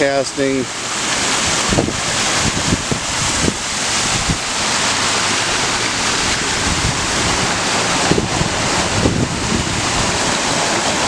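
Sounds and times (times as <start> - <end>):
waterfall rushing over boulders: 0.0 - 11.0.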